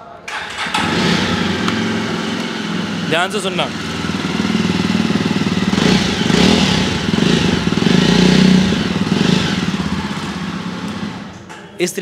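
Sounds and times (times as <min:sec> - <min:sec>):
motorcycle engine revving: 0:00.3 - 0:11.5.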